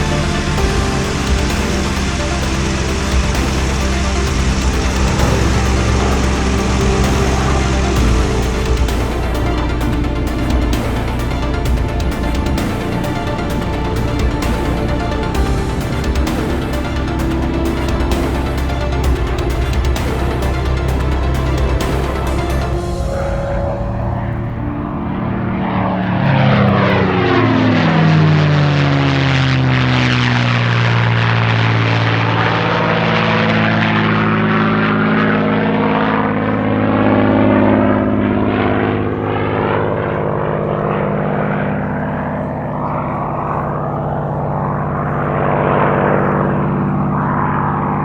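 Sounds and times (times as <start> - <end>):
propeller plane engine drone: 0.0 - 48.0.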